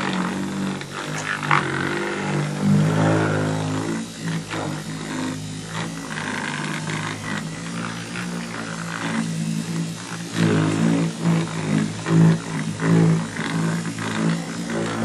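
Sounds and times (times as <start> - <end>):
electric buffer motor hum: 0.0 - 15.0.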